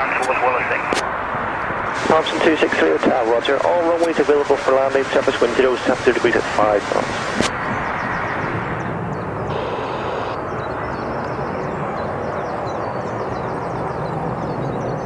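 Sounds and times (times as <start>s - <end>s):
jet airliner roar: 0.0s - 15.0s.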